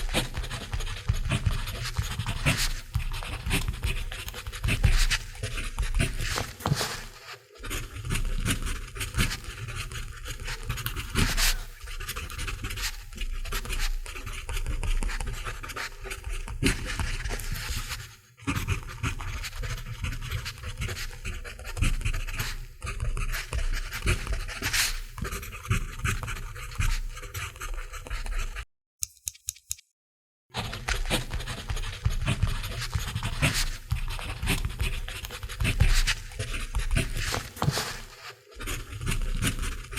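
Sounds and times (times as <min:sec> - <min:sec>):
pencil scratching on paper: 0:00.0 - 0:28.7, 0:30.6 - 0:39.9.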